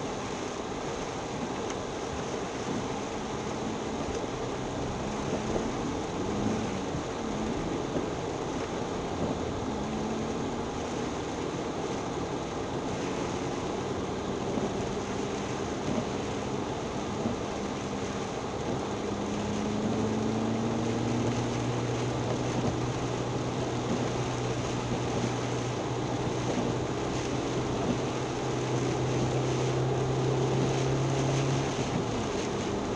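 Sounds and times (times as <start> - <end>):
car engine hum: 0.0 - 32.9
road and storm noise: 0.0 - 32.9.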